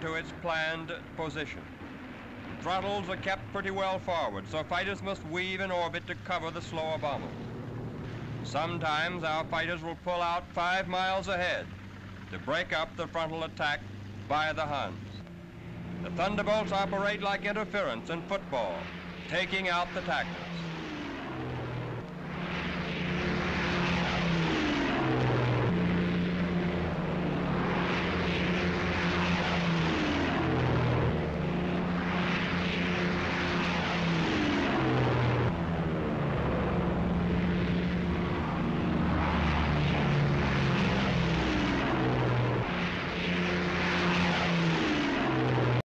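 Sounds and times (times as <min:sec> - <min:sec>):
propeller engines droning: 0:00.0 - 0:45.8.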